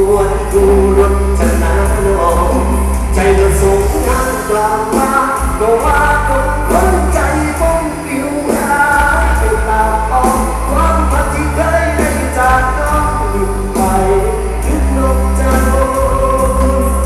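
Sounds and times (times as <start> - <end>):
song with singer and strong bass: 0.0 - 17.0.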